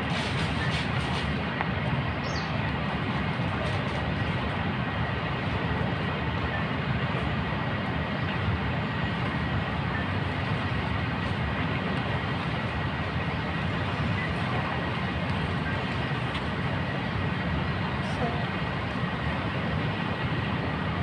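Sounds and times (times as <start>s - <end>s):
steady rumbling noise: 0.0s - 21.0s.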